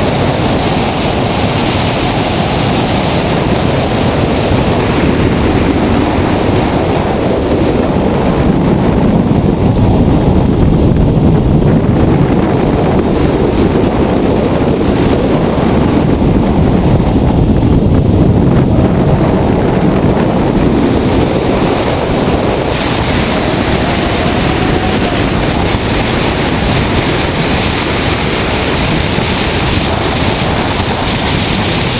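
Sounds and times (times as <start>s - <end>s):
tyre and road noise: 0.0s - 31.9s
wind buffeting camera: 0.0s - 31.9s.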